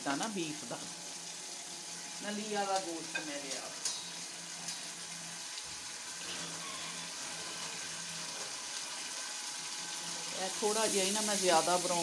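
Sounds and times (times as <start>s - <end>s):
onions and garlic frying: 0.0s - 12.0s.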